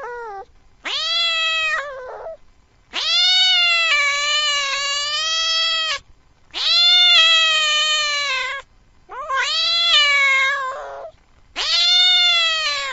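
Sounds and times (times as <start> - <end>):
cat meowing: 0.0 - 12.9.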